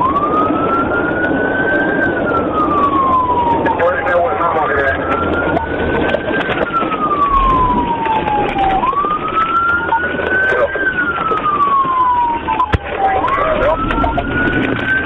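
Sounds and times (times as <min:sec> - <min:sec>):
police siren wailing: 0:00.0 - 0:15.0
car engine and road noise: 0:00.1 - 0:15.0.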